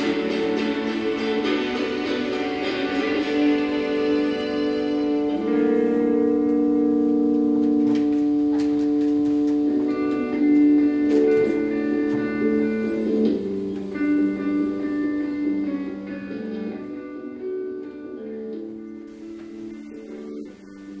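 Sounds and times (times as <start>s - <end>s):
instrumental background music: 0.0s - 21.0s.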